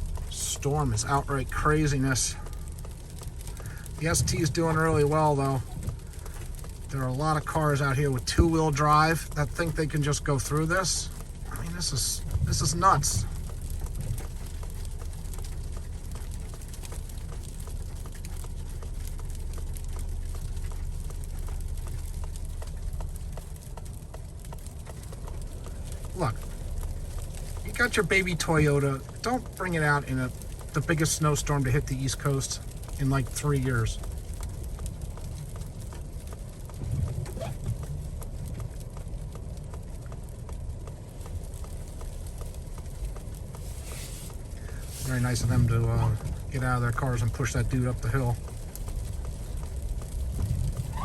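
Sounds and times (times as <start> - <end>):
car cabin low rumble: 0.0 - 51.0
light ticks: 0.0 - 51.0.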